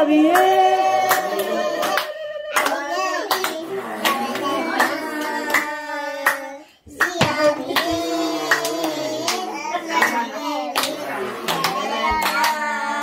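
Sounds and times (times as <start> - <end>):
children singing: 0.0 - 13.0
hand claps: 0.4 - 13.0.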